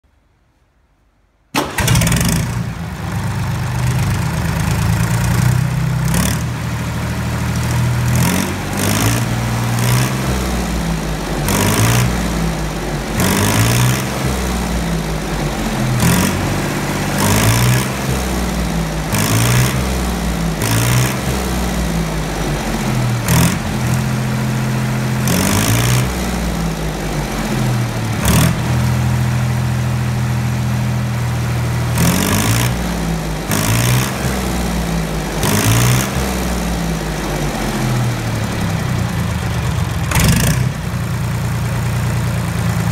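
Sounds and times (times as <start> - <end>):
diesel engine starting: 1.5 - 42.9
diesel engine revving and idling: 1.6 - 42.9.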